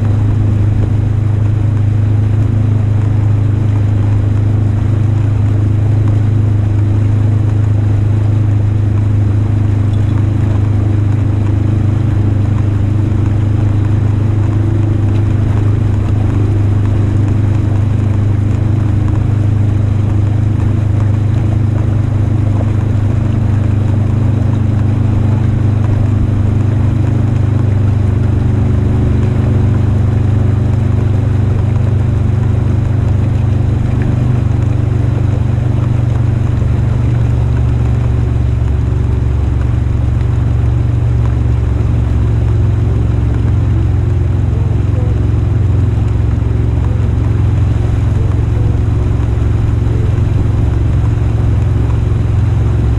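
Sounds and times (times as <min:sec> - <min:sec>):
vehicle engine droning while driving: 0:00.0 - 0:52.9.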